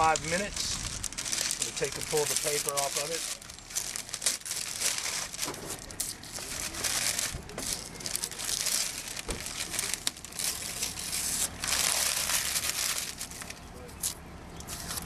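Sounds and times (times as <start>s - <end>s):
paper crackling: 0.0s - 15.0s.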